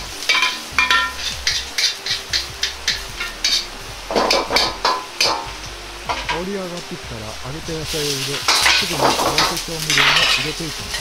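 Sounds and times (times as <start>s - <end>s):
aromatics sizzling in oil: 0.0s - 11.0s
metal ladle scraping a wok: 0.2s - 6.4s, 8.0s - 11.0s.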